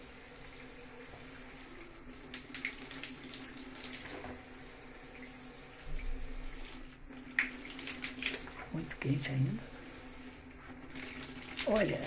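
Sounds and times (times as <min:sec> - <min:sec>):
shower spraying onto tiles: 0:00.0 - 0:12.0.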